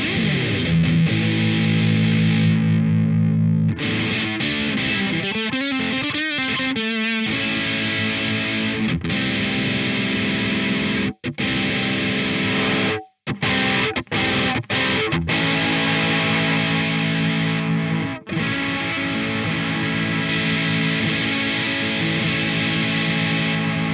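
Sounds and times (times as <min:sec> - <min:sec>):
distorted electric guitar: 0:00.0 - 0:23.9.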